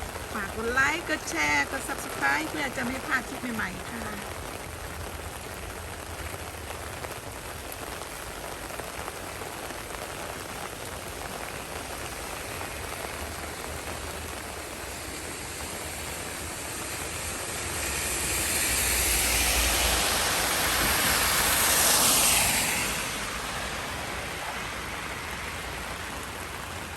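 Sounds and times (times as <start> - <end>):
heavy rain falling: 0.0 - 26.9
rushing hiss with low rumble: 0.0 - 26.9.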